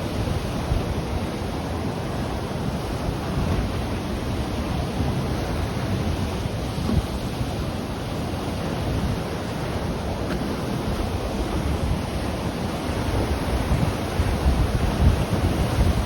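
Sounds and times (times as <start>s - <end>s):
ocean waves breaking on shore: 0.0s - 16.0s
wind buffeting microphone: 0.0s - 16.0s.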